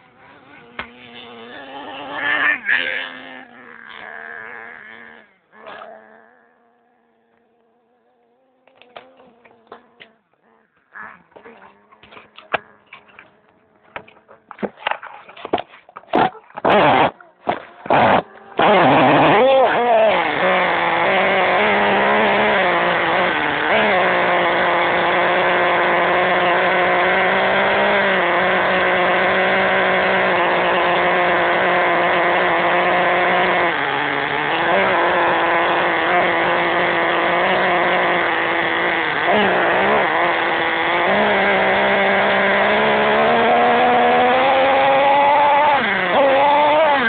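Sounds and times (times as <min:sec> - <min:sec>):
small engine buzzing: 0:00.0 - 0:47.0.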